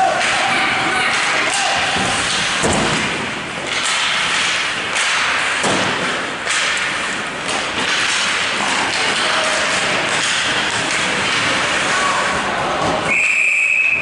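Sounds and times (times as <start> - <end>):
thumps against rink boards: 0.0 - 13.1.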